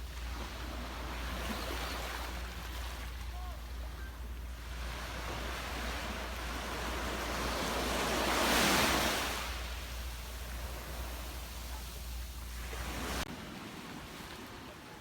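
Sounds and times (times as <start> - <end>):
ocean waves breaking on beach: 0.0 - 15.0.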